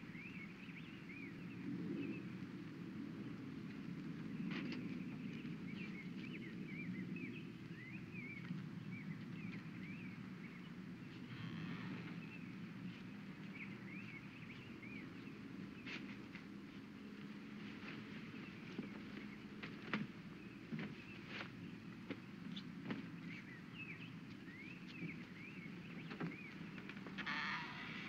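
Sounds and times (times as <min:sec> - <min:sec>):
low outdoor rumble: 0:00.0 - 0:28.0
small birds chirping: 0:00.0 - 0:28.0.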